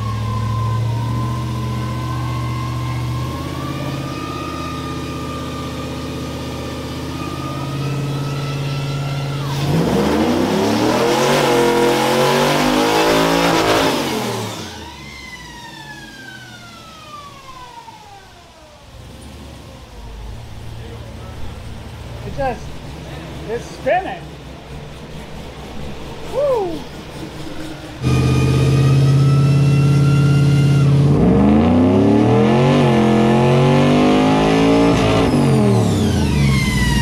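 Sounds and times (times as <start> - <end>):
car engine revving on dyno: 0.0 - 37.0
dyno rollers whine coasting down: 0.0 - 37.0.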